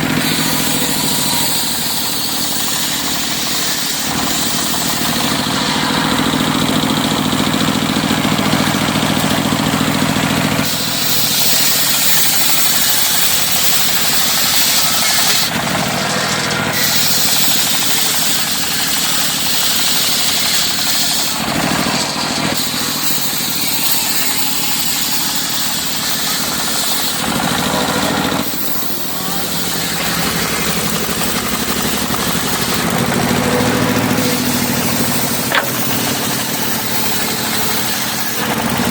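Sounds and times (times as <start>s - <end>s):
saw blade cutting wood: 0.0s - 38.9s
sawmill engine running: 0.0s - 38.9s.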